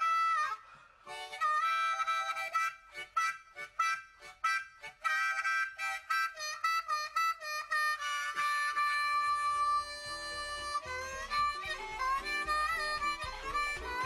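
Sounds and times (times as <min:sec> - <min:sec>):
instrumental melody: 0:00.0 - 0:14.0.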